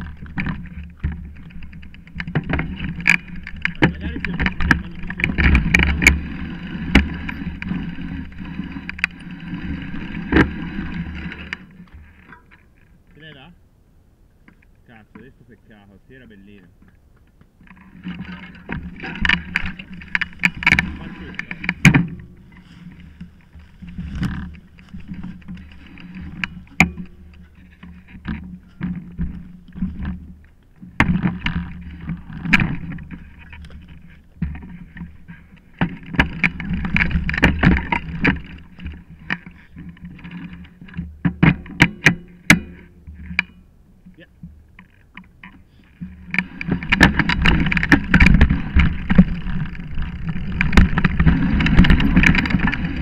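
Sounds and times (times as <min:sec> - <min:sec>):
bike knocking over bumps: 0:00.0 - 0:12.6, 0:17.7 - 0:53.0
bike rattling over dirt trail: 0:00.0 - 0:13.6, 0:14.5 - 0:53.0.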